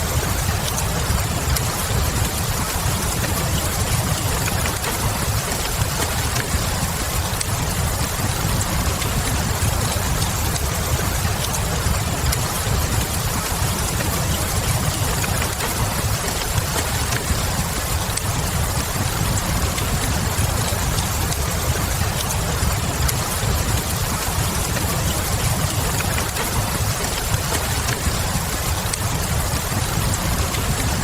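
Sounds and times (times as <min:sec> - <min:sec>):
rain hiss: 0:00.0 - 0:31.0
wood fire crackling: 0:00.0 - 0:31.0.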